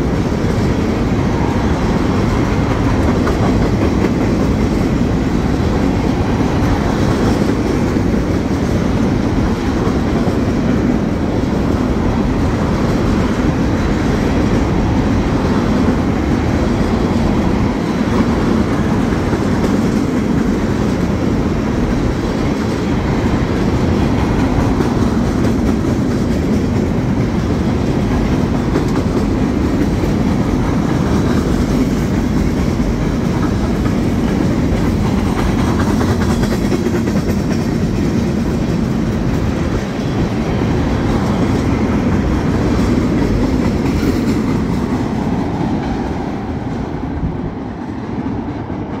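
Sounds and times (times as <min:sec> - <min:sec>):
freight train rolling past: 0:00.0 - 0:49.0.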